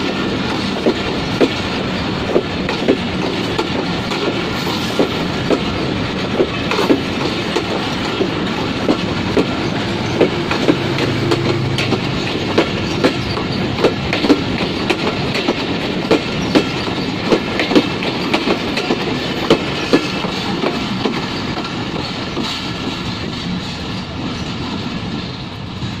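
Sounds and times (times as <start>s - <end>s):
train coaches rumbling past: 0.0s - 26.0s
train wheels clacking over rail joints: 0.0s - 26.0s.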